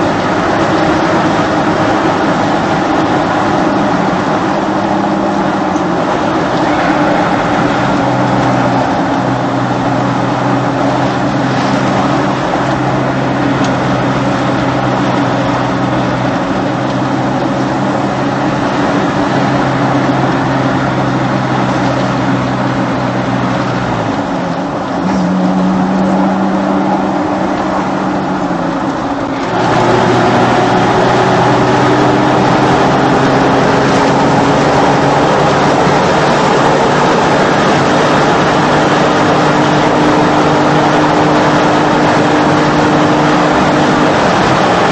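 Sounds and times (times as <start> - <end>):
car engine exhaust drone: 0.0 - 44.9.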